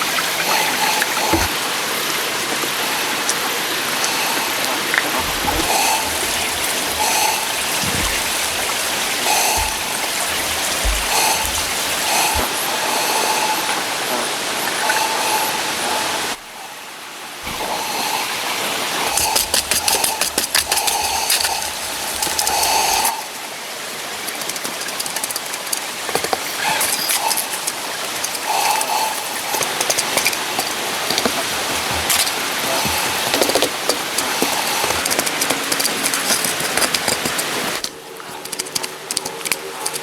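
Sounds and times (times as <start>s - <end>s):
running water hiss: 0.0s - 40.0s.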